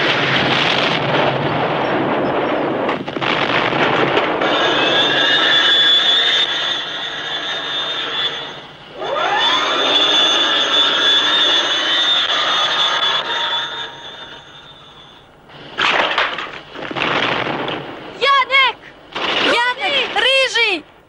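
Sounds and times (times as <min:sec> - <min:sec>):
high engine whine: 0:00.0 - 0:18.2.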